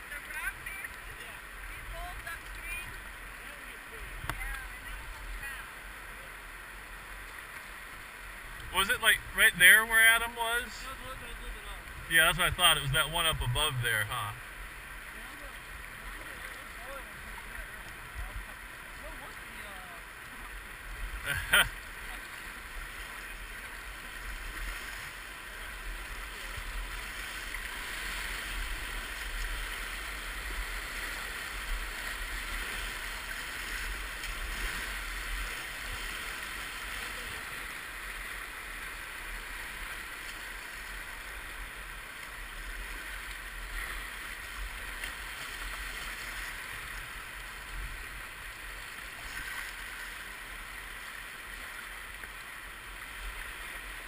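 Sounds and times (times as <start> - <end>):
river rapids rushing: 5.2 - 54.0.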